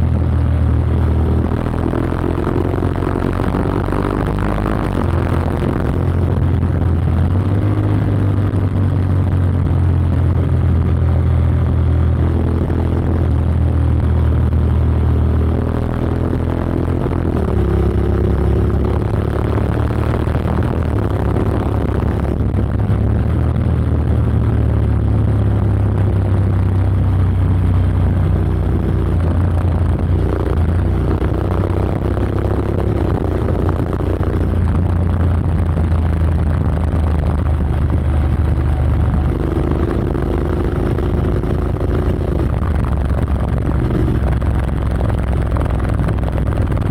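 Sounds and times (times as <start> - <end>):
motorcycle engine exhaust note: 0.0 - 46.9.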